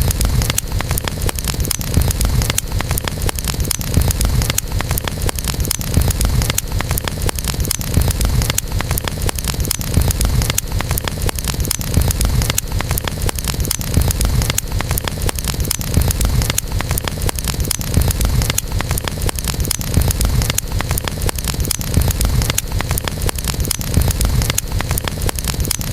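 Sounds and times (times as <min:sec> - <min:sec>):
campfire crackling and popping: 0:00.0 - 0:25.9
low rumble of flames: 0:00.0 - 0:25.9.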